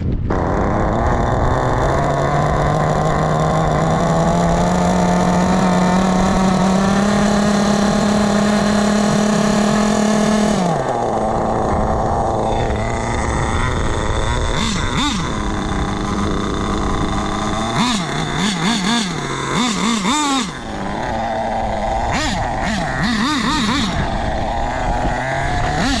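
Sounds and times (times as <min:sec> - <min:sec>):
model engine revving high: 0:00.2 - 0:26.0.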